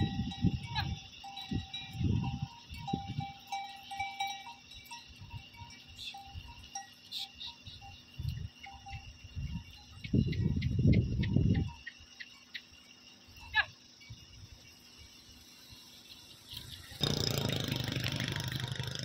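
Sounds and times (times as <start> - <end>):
small animal bells clinking: 0.0 - 19.0.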